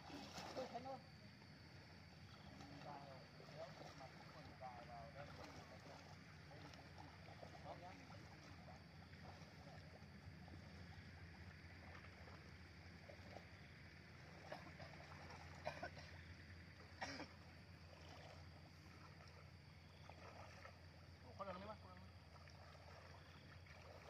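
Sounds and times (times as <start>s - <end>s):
sharp splashes: 0.0s - 1.0s, 2.2s - 24.0s
shallow water sloshing: 0.0s - 24.0s.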